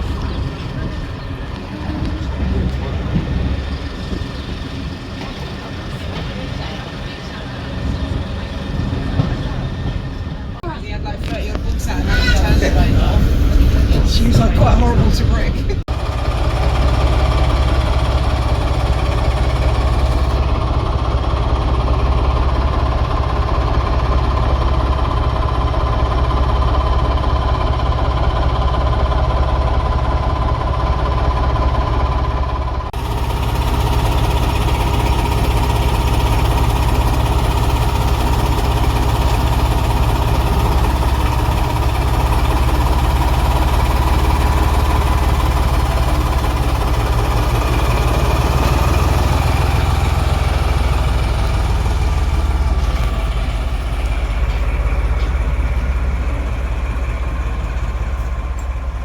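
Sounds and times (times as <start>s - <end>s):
diesel engine rumbling: 0.0s - 59.0s.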